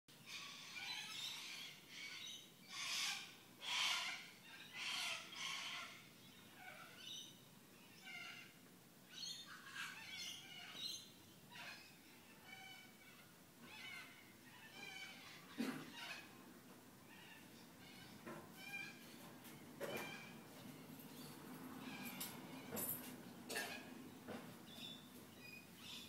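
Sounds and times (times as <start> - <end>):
birds making harsh calls: 0.2 - 26.0.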